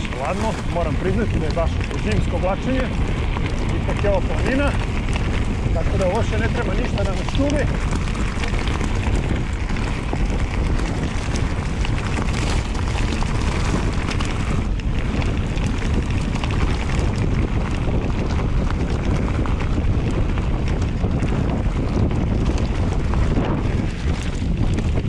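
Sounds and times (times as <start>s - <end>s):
tyres rumbling over gravel: 0.0s - 25.0s
wind buffeting microphone: 0.0s - 25.0s.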